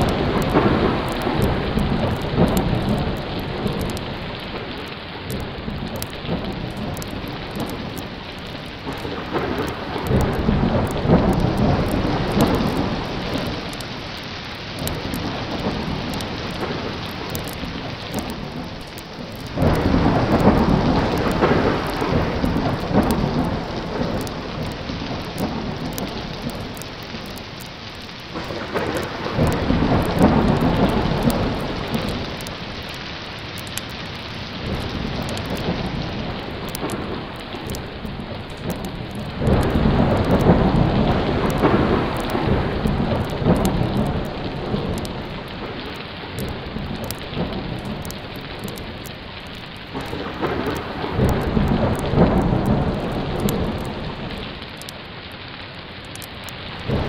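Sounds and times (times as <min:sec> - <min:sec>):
rolling thunder: 0:00.0 - 0:54.8, 0:56.1 - 0:57.0
heavy rain: 0:00.0 - 0:57.0.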